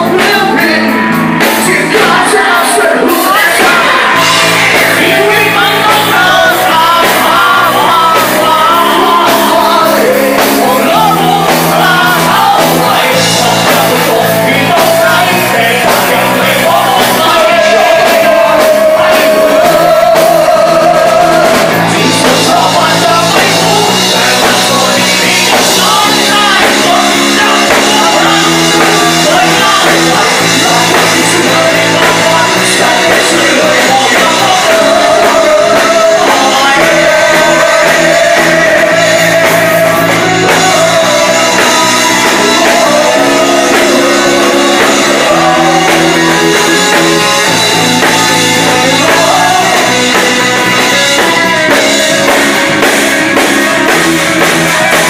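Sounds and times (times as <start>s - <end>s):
drums: 0.0s - 55.0s
electric guitar: 0.0s - 55.0s
person singing: 0.0s - 55.0s.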